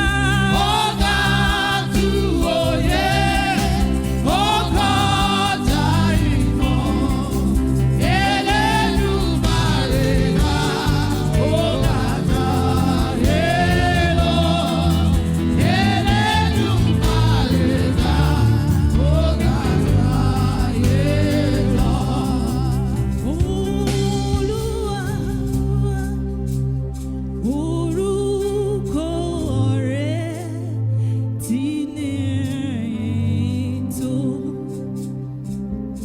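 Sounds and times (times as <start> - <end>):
gospel choir singing: 0.0 - 30.8
instrumental backing: 0.0 - 36.0.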